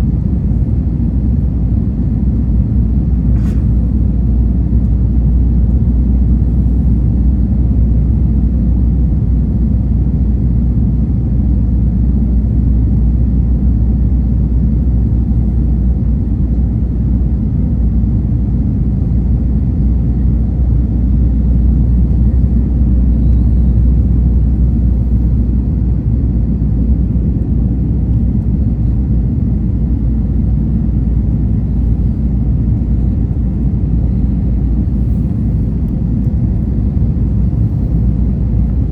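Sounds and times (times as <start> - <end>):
airliner cabin engine rumble: 0.0 - 38.9
faint steady hum: 0.0 - 38.9.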